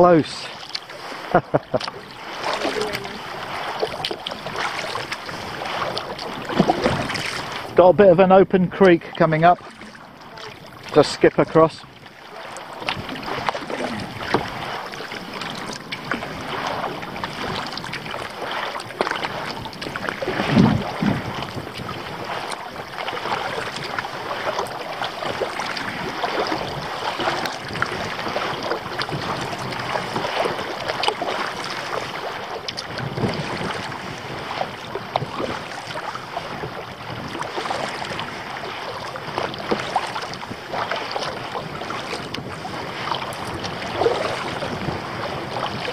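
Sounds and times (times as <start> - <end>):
water splashing around kayak: 0.0 - 45.9
wind buffeting microphone: 0.0 - 45.9.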